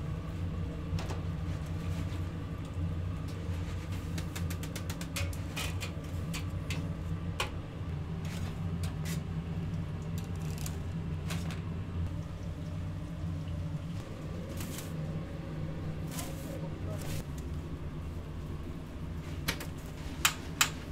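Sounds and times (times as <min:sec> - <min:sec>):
low machine hum: 0:00.0 - 0:20.9.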